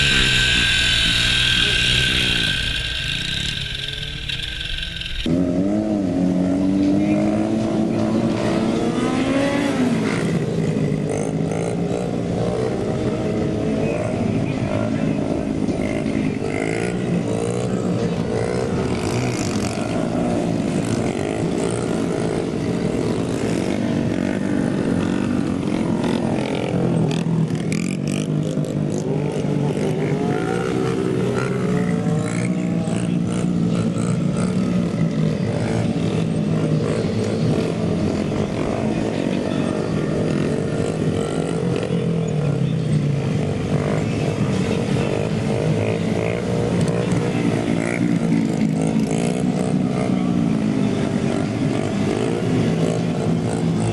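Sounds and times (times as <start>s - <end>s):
mini bike engines revving: 0.0s - 53.9s.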